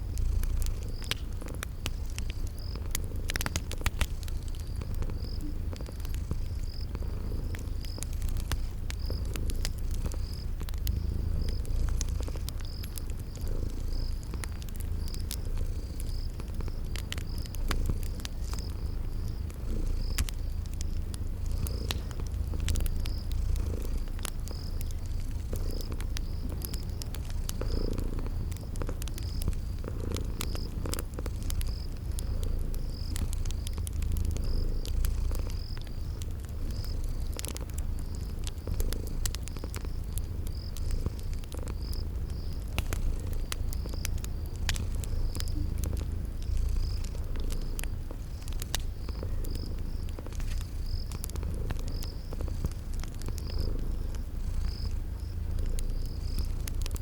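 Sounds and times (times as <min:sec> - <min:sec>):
cat purring: 0:00.0 - 0:57.0
cricket chirping: 0:00.0 - 0:57.0
fire crackling: 0:00.0 - 0:57.0.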